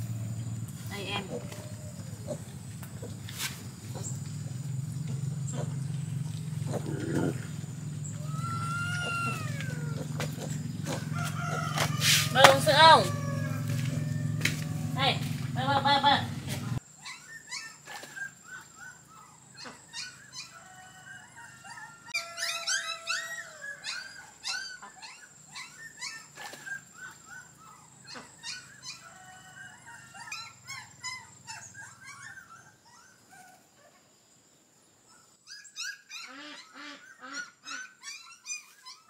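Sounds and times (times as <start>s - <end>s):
dogs whining: 1.3s - 15.0s, 16.7s - 33.6s, 35.1s - 39.0s.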